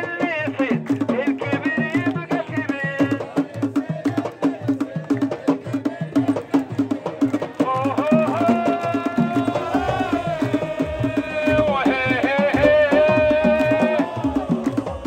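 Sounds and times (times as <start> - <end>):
steady drumming: 0.0 - 15.0
crowd chanting in unison: 1.6 - 15.0.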